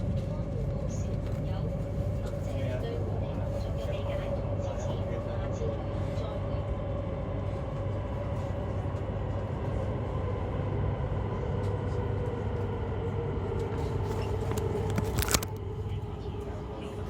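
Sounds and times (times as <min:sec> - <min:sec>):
train rumble with falling whine: 0:00.0 - 0:17.0.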